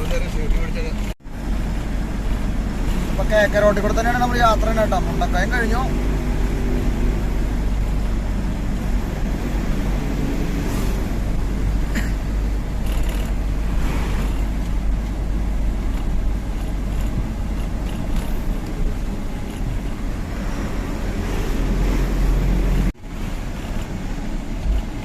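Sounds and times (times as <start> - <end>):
road and wind noise: 0.0 - 25.0
truck diesel engine rumbling: 0.0 - 25.0.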